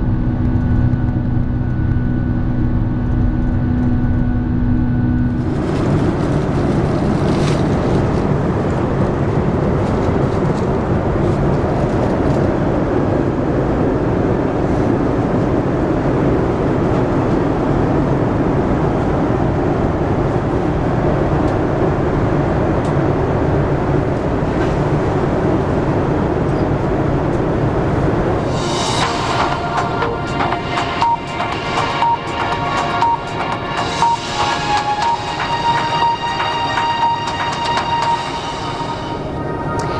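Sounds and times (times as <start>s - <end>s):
jet engine roar in cabin: 0.0s - 39.9s
rushing air: 5.1s - 39.9s.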